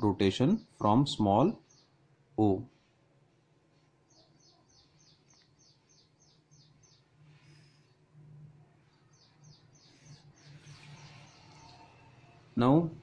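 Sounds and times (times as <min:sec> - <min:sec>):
bird chirping: 0:00.0 - 0:02.9, 0:03.7 - 0:13.0
faint low hum: 0:00.0 - 0:13.0.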